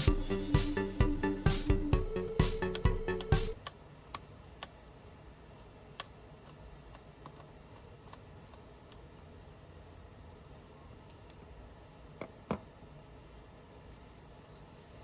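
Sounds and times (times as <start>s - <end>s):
low room noise: 0.0s - 15.0s.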